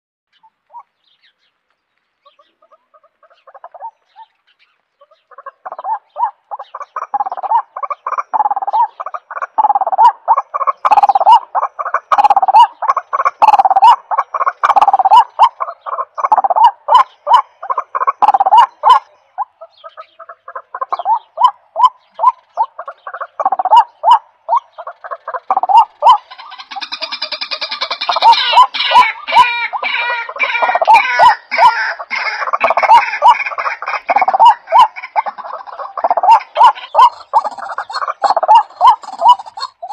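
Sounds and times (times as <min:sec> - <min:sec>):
waterhen croaking calls: 0:00.3 - 0:01.4, 0:02.2 - 0:39.9.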